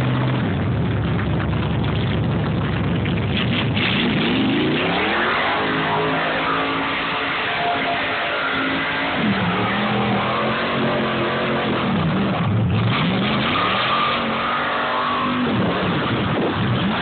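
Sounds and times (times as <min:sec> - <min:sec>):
car engine revving: 0:00.0 - 0:17.0
tires spinning on dirt: 0:00.0 - 0:17.0.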